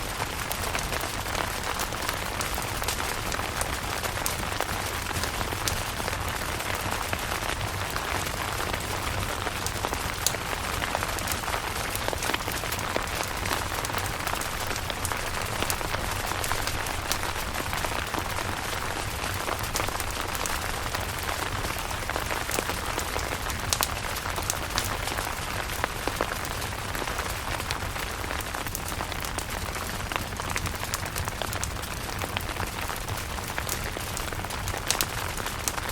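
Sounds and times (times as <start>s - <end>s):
rain hissing on a tent: 0.0s - 35.9s
raindrops ticking: 0.0s - 35.9s.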